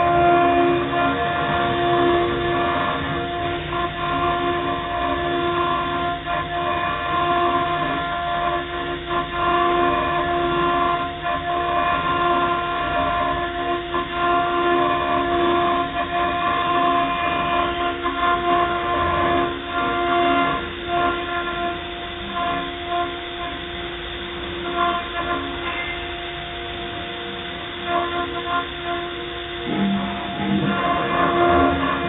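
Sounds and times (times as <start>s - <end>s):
end mill cutting metal: 0.0s - 32.0s
milling spindle high whine: 0.0s - 32.0s.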